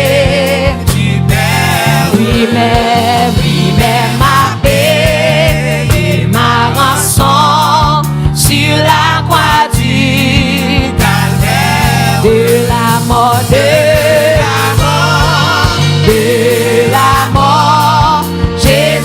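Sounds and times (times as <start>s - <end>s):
band playing low chords and beat: 0.0s - 19.0s
voices singing gospel: 0.0s - 19.0s.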